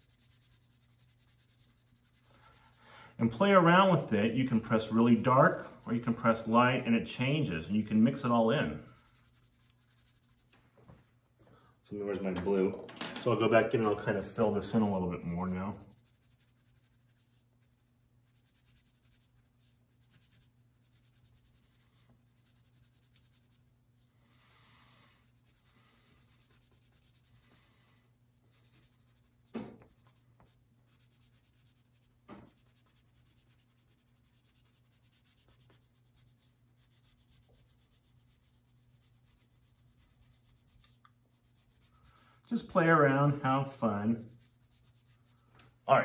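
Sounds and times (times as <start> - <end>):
crayon scratching on paper: 0.0 - 6.6, 7.2 - 10.5, 13.8 - 24.5, 25.3 - 27.6, 28.5 - 45.5.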